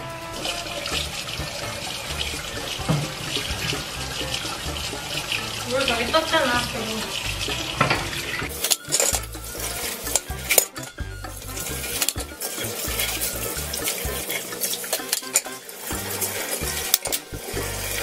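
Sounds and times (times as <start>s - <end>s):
tap running: 0.0s - 18.0s
dishes clinking in a steel sink: 0.4s - 18.0s.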